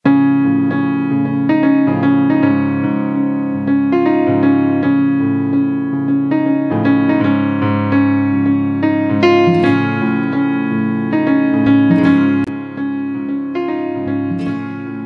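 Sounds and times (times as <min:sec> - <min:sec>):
keyboard melody: 0:00.0 - 0:15.0.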